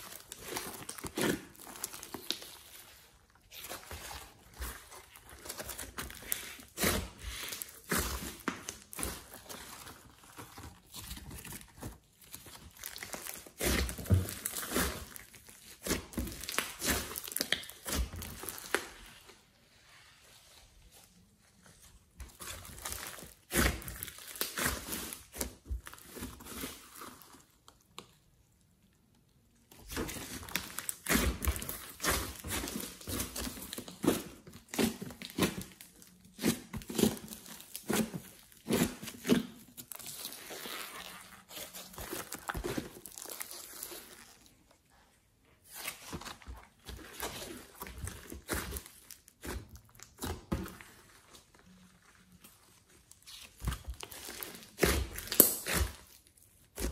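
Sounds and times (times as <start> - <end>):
sticky slime crackles and squelches: 0.0 - 56.9.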